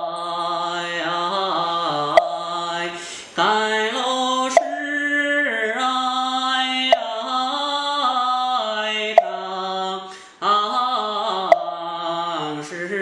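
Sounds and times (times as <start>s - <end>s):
man chanting melismatically: 0.0s - 13.0s.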